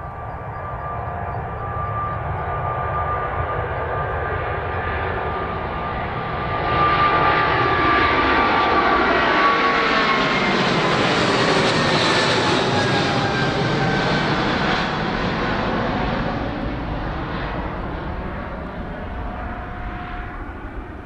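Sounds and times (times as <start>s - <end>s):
airliner engines passing: 0.0s - 21.0s.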